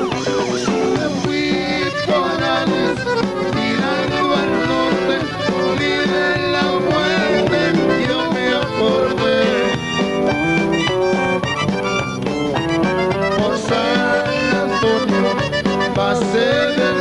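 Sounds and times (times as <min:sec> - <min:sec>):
button accordion: 0:00.0 - 0:17.0
live band dance music: 0:00.0 - 0:17.0.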